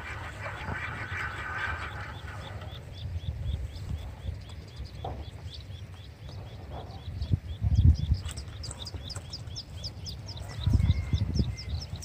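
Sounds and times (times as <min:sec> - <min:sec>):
low rumbling on microphone: 0:00.0 - 0:12.0
small bird chirping: 0:01.8 - 0:12.0.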